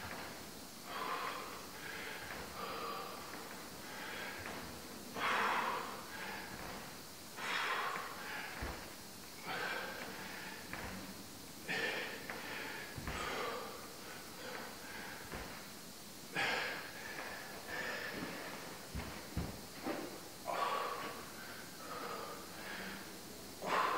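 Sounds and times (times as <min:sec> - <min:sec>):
person breathing hard: 0:00.8 - 0:11.0, 0:11.6 - 0:15.7, 0:16.3 - 0:19.2, 0:20.4 - 0:23.9.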